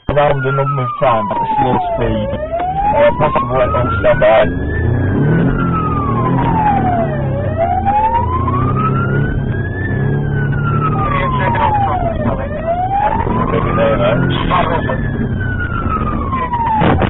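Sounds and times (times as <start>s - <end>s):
car engine and road noise: 0.0s - 17.0s
police siren wailing: 0.0s - 17.0s.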